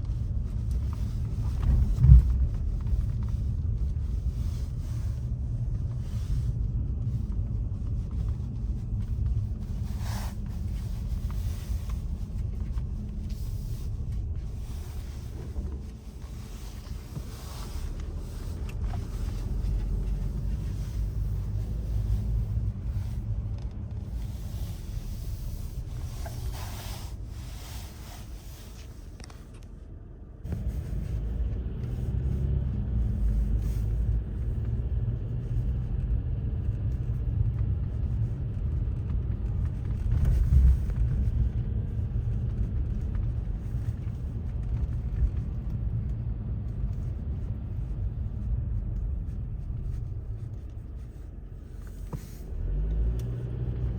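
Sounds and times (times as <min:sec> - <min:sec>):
motor vehicle rumble: 0:00.0 - 0:53.9.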